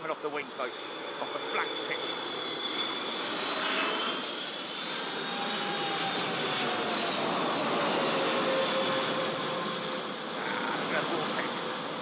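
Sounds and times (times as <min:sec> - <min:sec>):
faint engine whine: 0:00.0 - 0:12.0
jet engine roar: 0:00.0 - 0:12.0.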